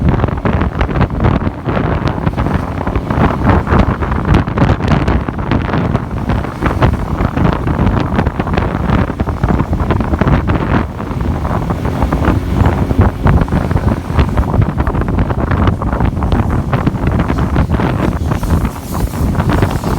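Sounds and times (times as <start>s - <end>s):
motorbike engine: 0.0s - 19.9s
road noise: 0.0s - 19.9s
wind buffeting microphone: 0.0s - 19.9s.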